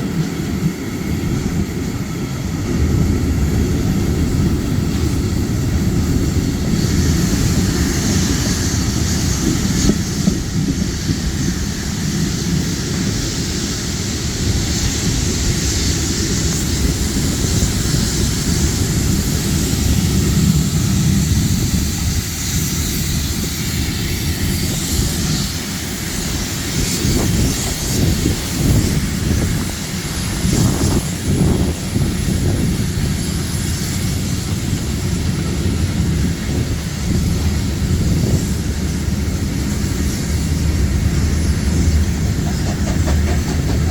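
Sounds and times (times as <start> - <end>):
train running: 0.0 - 43.9.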